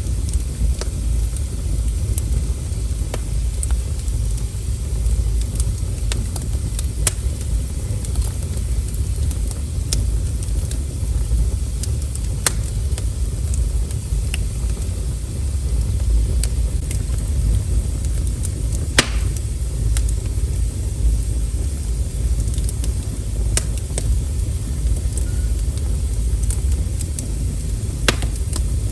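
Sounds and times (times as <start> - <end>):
fire crackling and popping: 0.0 - 28.9
wood fire rumbling: 0.0 - 28.9.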